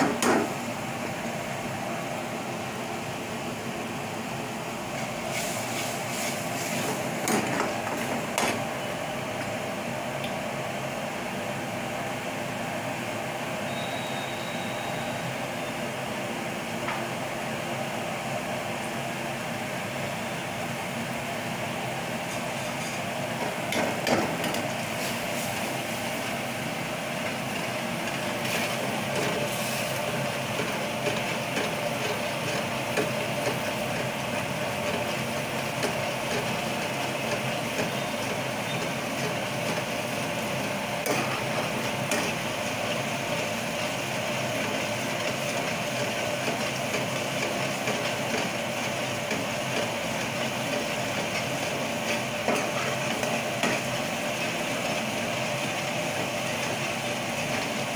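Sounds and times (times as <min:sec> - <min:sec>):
steady machine hum: 0:00.0 - 0:57.9.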